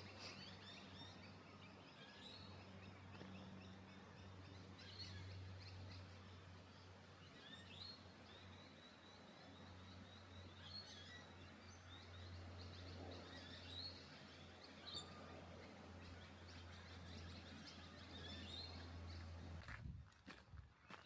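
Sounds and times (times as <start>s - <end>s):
birds chirping: 0.0s - 19.8s.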